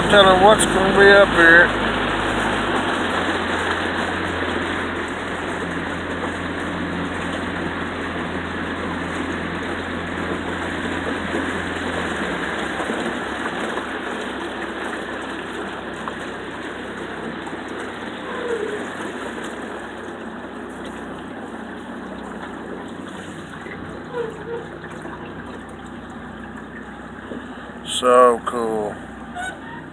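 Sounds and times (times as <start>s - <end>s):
outboard motor running: 0.0s - 29.9s
water rushing along boat: 0.0s - 29.9s.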